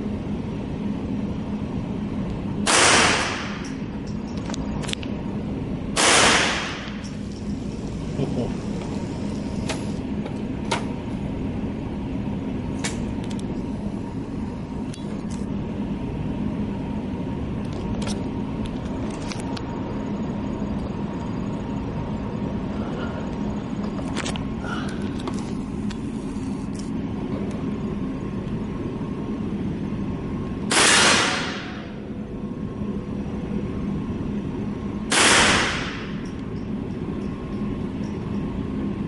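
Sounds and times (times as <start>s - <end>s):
steady low rumble with hum: 0.0s - 39.0s.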